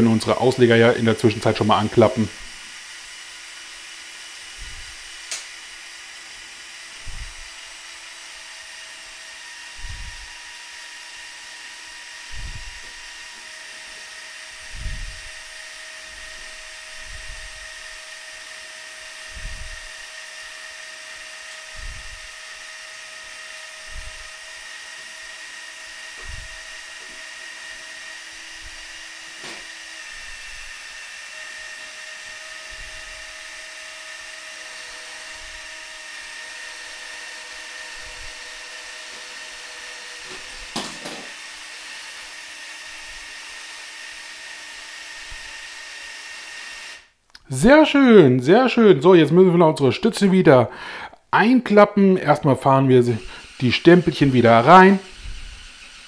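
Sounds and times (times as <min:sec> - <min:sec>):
toy crane motors whining: 0:00.3 - 0:48.0, 0:52.4 - 0:56.0.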